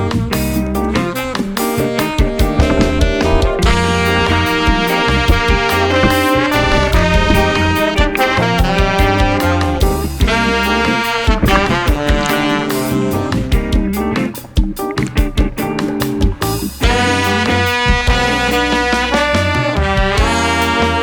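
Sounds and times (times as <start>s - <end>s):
instrumental music with saxophone and brass: 0.0s - 21.0s.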